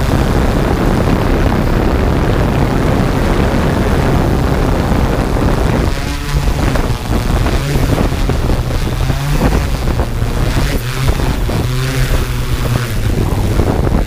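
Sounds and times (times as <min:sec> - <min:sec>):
drone propellers humming: 0:00.0 - 0:14.0
wind buffeting microphone: 0:00.0 - 0:14.0.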